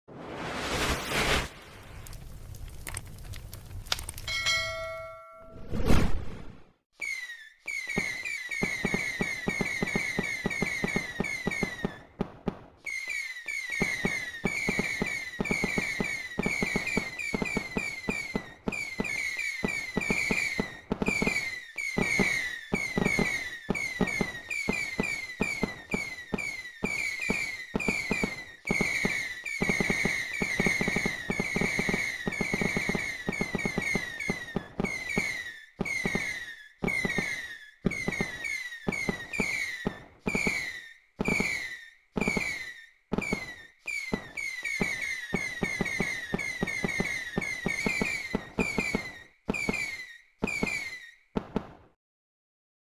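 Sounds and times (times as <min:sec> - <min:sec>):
fireworks bangs and crackling: 0:00.1 - 0:05.0, 0:07.7 - 0:52.0
firework falling whistles: 0:00.1 - 0:51.9.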